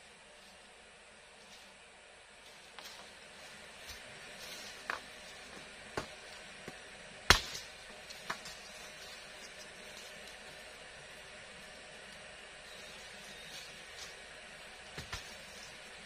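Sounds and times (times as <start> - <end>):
forest hiss: 0.0 - 16.0.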